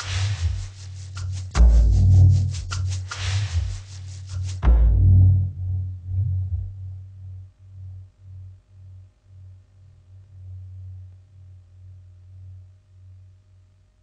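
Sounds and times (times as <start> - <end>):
deep pulsing hum: 0.2 - 3.9, 4.5 - 13.7.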